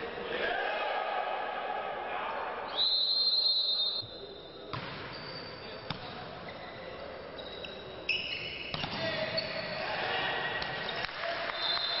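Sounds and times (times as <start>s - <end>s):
sports hall ambience: 0.0s - 12.0s.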